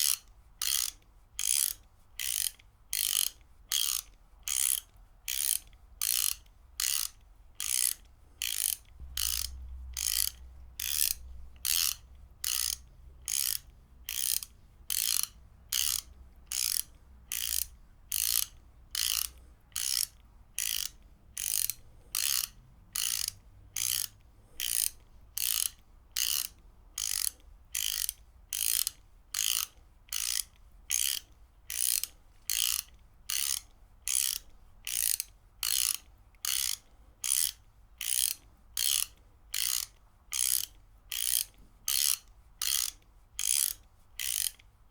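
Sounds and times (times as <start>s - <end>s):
ratchet wrench clicking: 0.0s - 44.6s.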